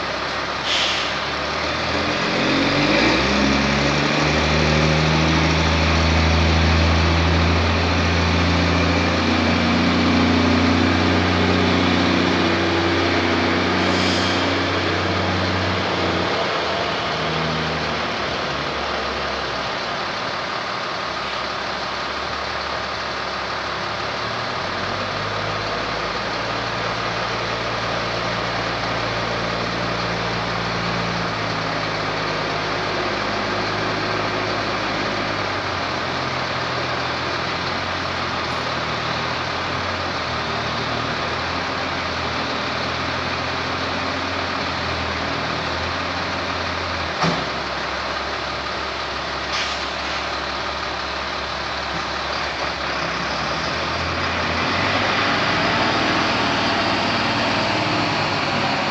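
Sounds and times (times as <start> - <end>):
truck diesel engine: 0.0 - 58.9.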